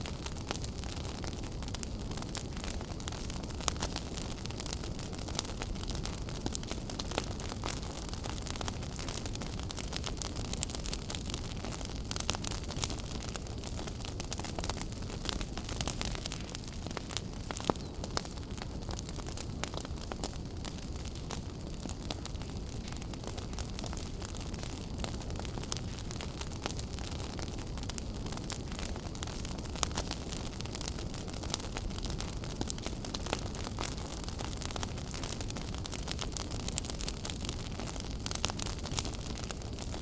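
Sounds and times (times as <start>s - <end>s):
fire crackling and popping: 0.0s - 40.0s
fireplace flames rumbling: 0.0s - 40.0s.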